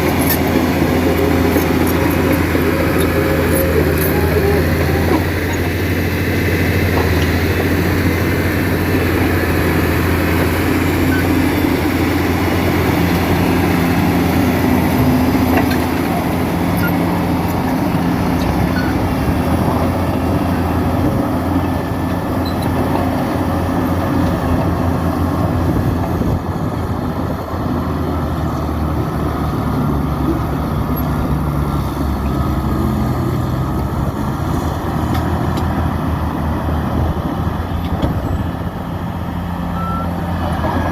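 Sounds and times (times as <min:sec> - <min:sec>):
dozer diesel engine running: 0:00.0 - 0:40.9.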